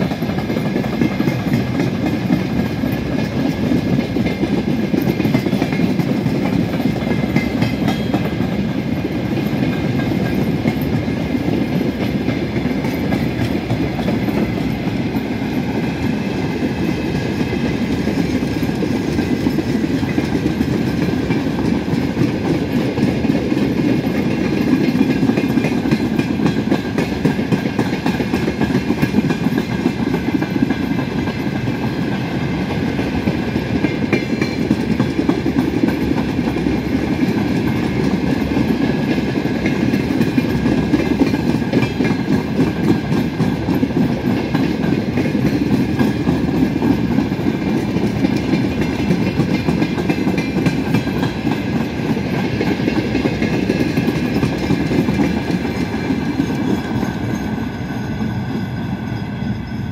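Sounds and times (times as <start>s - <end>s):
clickety-clack over rail joints: 0.0s - 59.9s
train wheels rumbling on rails: 0.0s - 59.9s.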